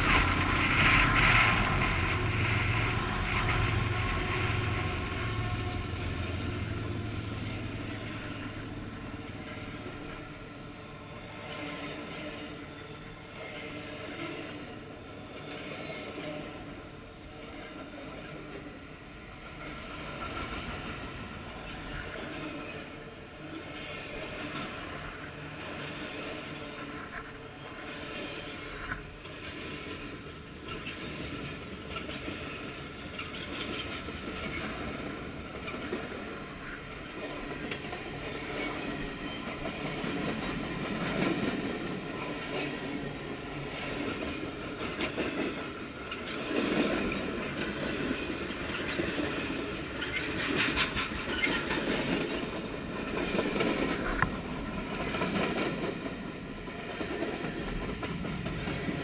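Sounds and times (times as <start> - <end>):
freight train wheels clacking on rails: 0.0 - 59.0.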